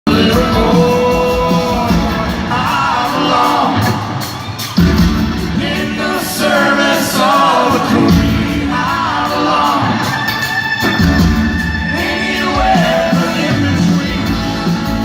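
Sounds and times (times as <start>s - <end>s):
man singing: 0.0s - 4.2s, 5.6s - 10.4s, 11.8s - 15.0s
rock band playing: 0.1s - 15.0s.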